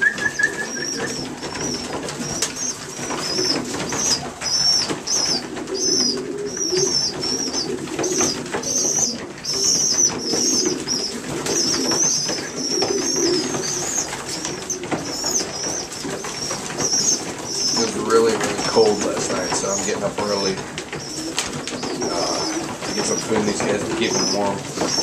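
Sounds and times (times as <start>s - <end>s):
pigeon cooing murmur: 0.0s - 25.0s
young pigeons squeaking: 0.0s - 25.0s.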